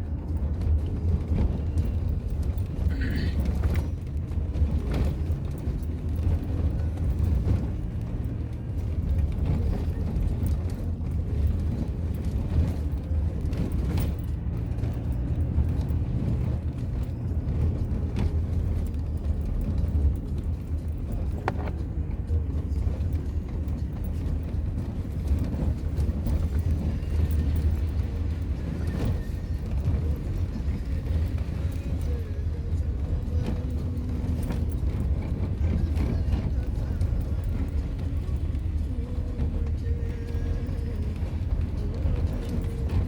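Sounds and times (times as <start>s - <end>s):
vehicle engine and road rumble: 0.0s - 43.0s.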